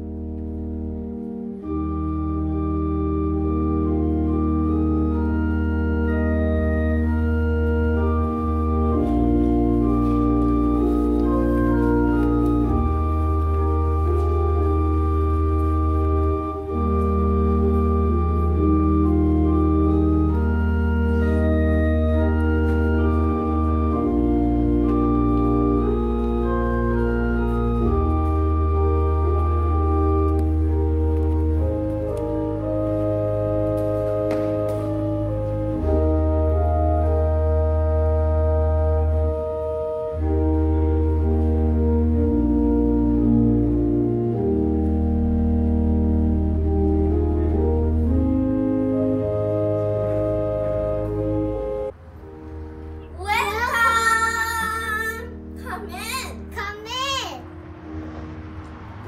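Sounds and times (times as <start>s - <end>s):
organ playing a hymn: 0.0s - 59.0s.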